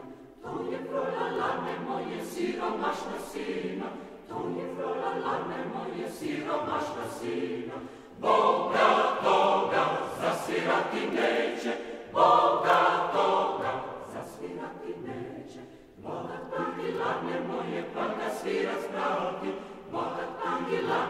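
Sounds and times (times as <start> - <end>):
mixed choir singing a cappella: 0.0 - 21.0.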